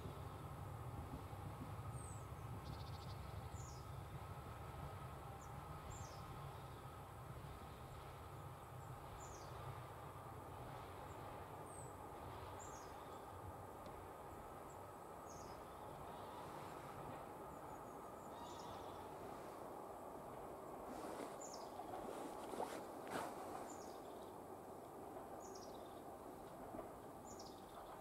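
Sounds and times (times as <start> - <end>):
faint outdoor background noise: 0.0 - 28.0.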